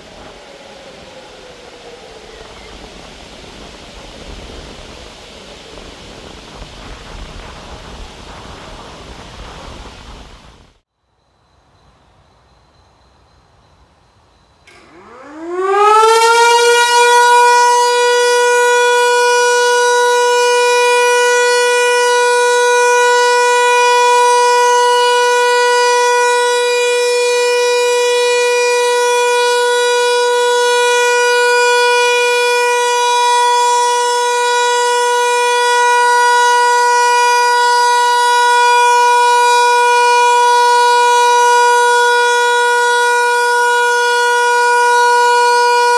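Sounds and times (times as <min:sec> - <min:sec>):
siren winding up to steady tone: 0:00.0 - 0:09.9, 0:14.7 - 0:45.9.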